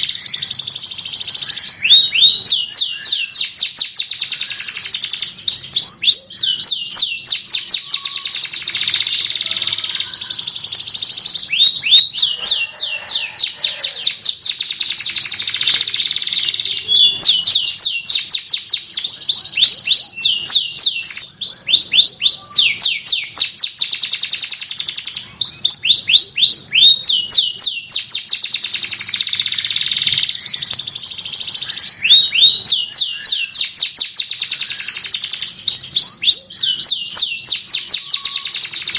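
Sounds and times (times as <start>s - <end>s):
songbirds singing rolling trills: 0.0s - 38.9s.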